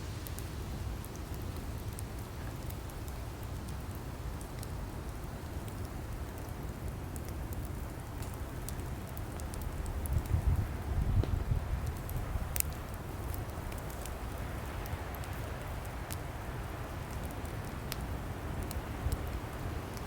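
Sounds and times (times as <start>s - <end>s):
low rumble of flames: 0.0s - 20.0s
wood logs crackling and popping: 0.1s - 20.0s.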